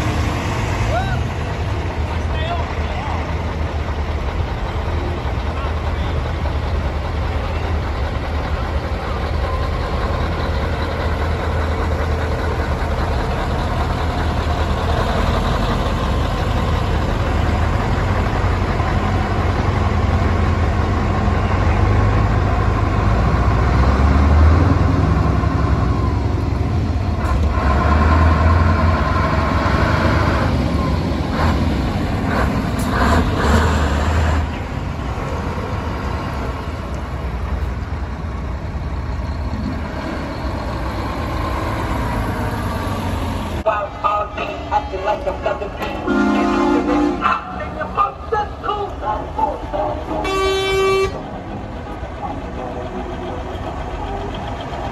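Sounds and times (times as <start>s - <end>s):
heavy lorry diesel engines: 0.0s - 54.9s.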